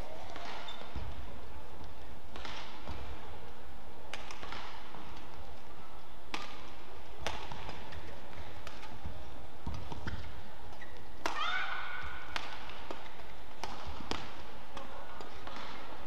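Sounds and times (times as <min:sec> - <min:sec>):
rackets hitting shuttlecock: 0:00.0 - 0:01.2, 0:01.8 - 0:03.2, 0:04.1 - 0:16.0
low arena hum: 0:00.0 - 0:16.0.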